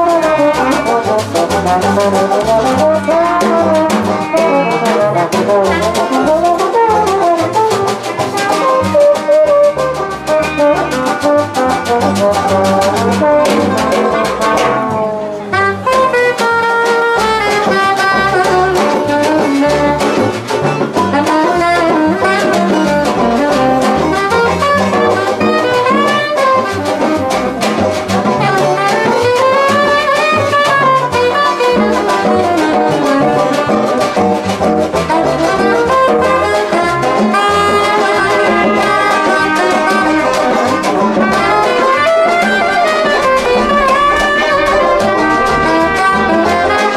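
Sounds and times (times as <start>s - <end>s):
brass band playing: 0.0s - 46.9s.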